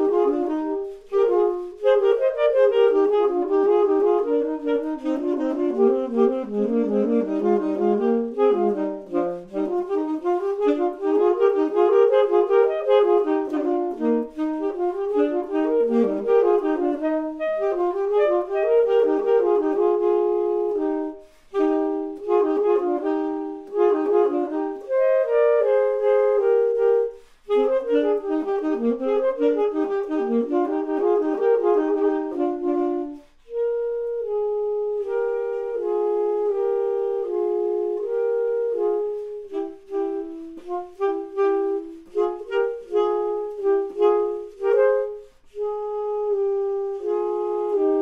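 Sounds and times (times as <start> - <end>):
saxophone duet: 0.0 - 48.0.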